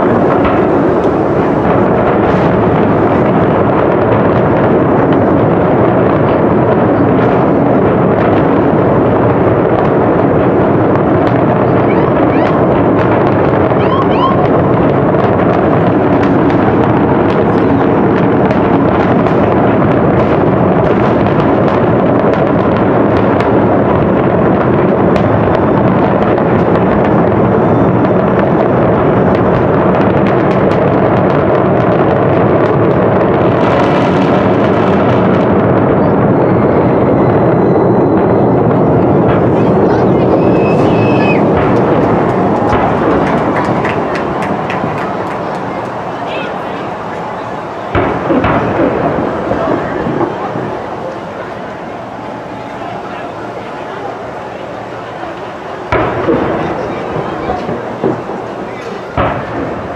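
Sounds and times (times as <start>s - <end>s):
fireworks explosions rumbling: 0.0s - 59.9s.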